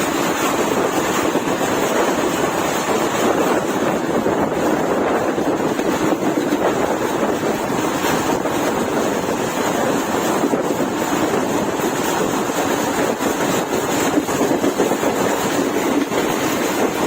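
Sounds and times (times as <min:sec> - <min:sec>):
moving train rushing: 0:00.0 - 0:17.0
wind on microphone: 0:00.0 - 0:17.0.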